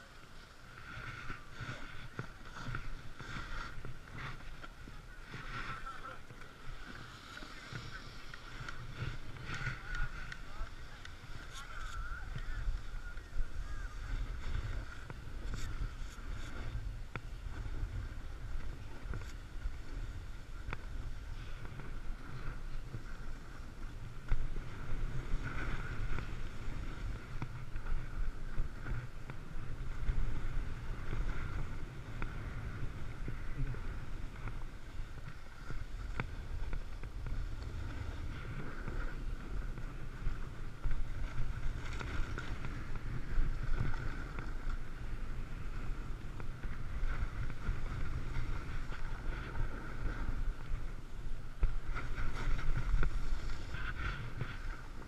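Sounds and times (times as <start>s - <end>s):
snowboard scraping over snow: 0.0s - 55.0s
wind rumble on microphone: 0.0s - 55.0s.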